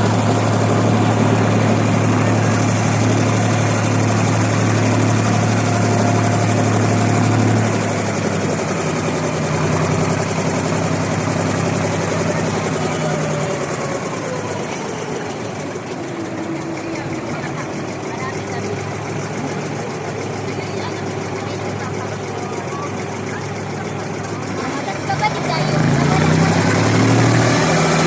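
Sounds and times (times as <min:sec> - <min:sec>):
boat diesel engine humming: 0:00.0 - 0:28.0.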